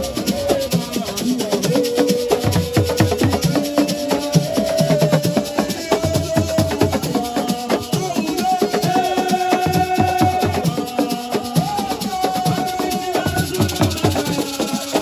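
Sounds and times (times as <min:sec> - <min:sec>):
fast drumming with shakers: 0:00.0 - 0:15.0.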